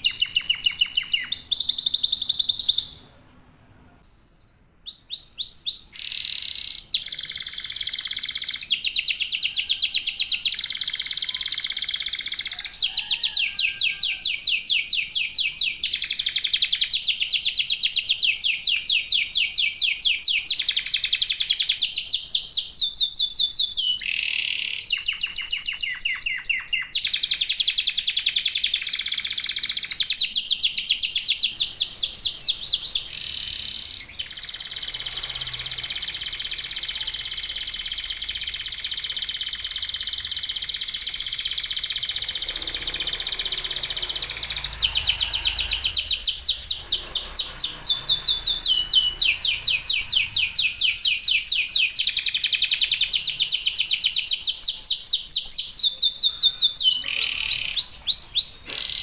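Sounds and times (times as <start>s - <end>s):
canary singing trills: 0.0s - 3.3s, 4.3s - 59.0s.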